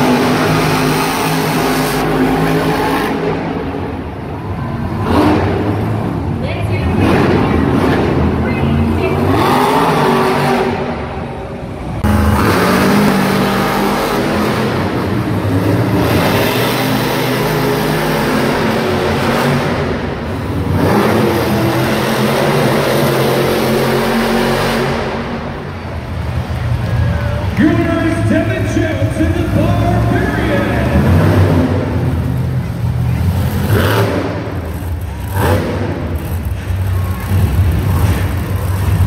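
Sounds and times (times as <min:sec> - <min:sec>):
truck engines revving hard: 0:00.0 - 0:39.0.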